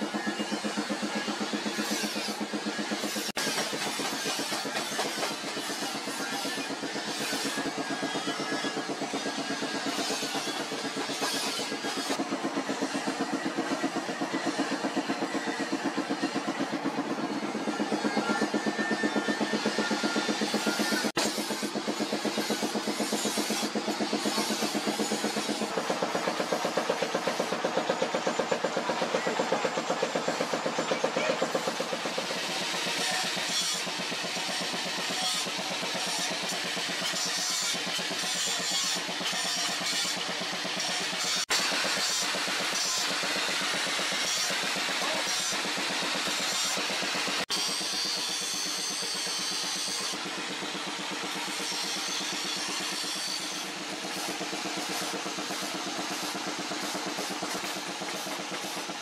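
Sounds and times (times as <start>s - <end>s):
angle grinder grinding steel: 0.0s - 59.0s
background music with fast drum beat: 0.0s - 59.0s.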